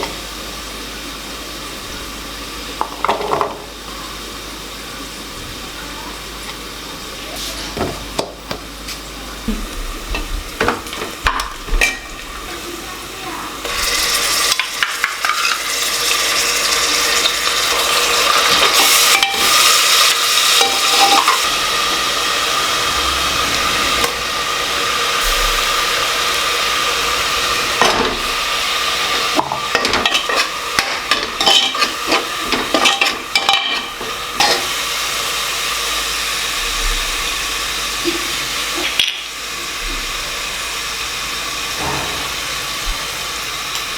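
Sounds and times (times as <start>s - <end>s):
food sizzling in a pot: 0.0s - 43.9s.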